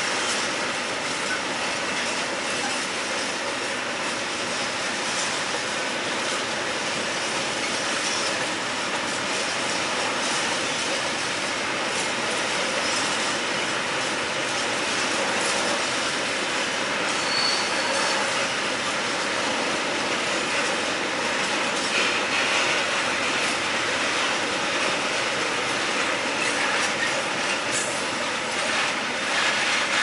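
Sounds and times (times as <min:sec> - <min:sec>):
freight train wheels rumbling on rails: 0:00.0 - 0:30.0.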